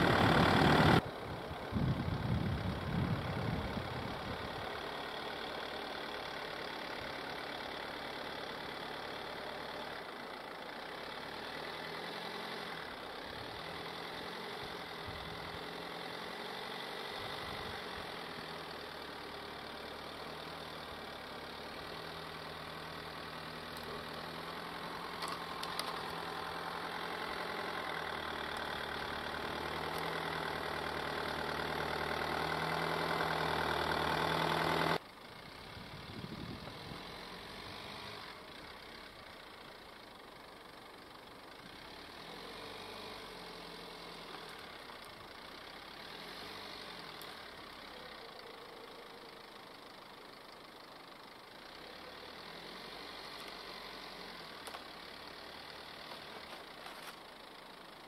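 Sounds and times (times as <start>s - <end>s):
van engine running at low revs: 0.0s - 58.0s.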